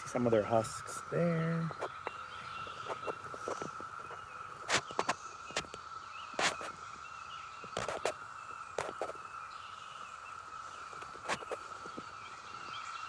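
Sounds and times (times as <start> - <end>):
birds chirping faintly: 0.0 - 13.0
cicadas humming: 0.0 - 13.0.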